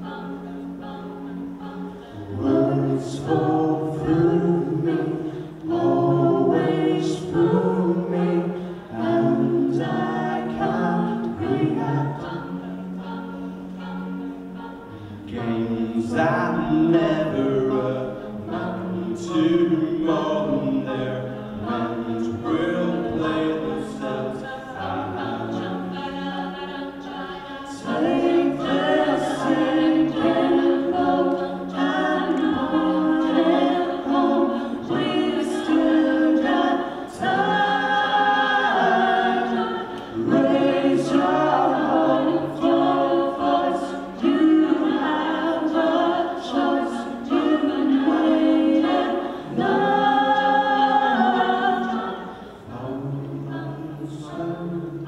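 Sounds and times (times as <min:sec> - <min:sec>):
a cappella group singing in harmony: 0:00.0 - 0:55.0.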